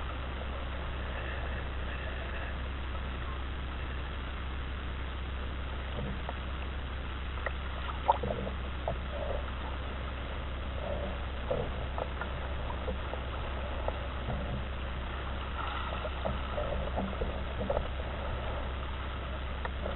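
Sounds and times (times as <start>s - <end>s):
steady low hum: 0.0s - 19.9s
water lapping and splashing: 0.0s - 19.9s.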